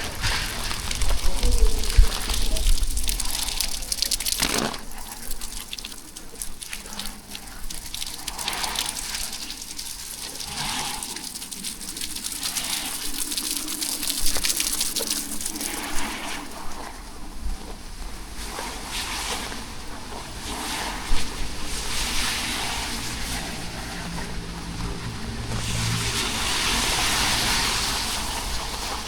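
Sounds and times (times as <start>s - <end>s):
rain falling steadily: 0.0s - 29.0s.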